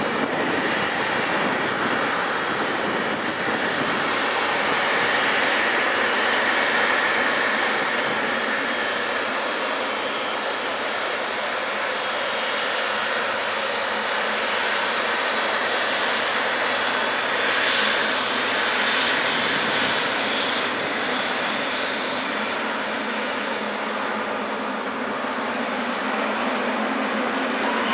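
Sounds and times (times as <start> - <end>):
jet engine roar and whine: 0.0 - 27.9.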